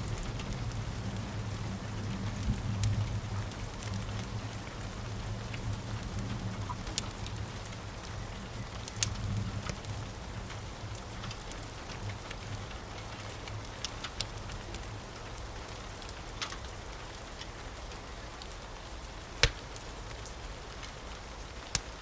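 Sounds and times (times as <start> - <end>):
rain hiss: 0.0 - 22.0
wood fire crackling: 0.0 - 22.0.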